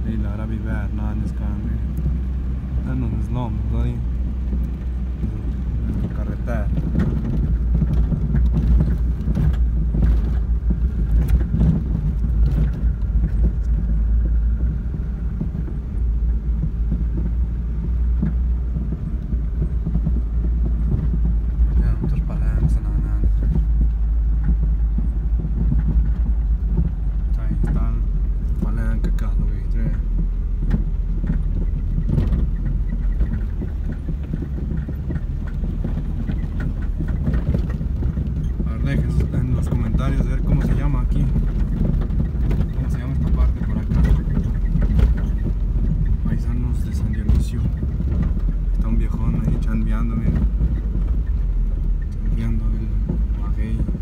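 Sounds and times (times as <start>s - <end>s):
car rumble on dirt road: 0.0s - 54.0s
knocks and rattles in car: 0.0s - 54.0s.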